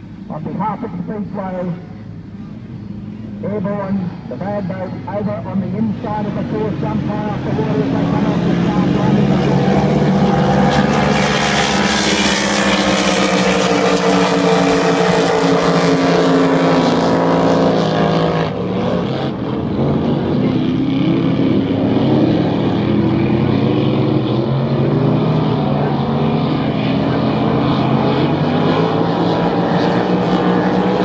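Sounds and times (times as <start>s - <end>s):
race boat engines droning: 0.0s - 31.0s.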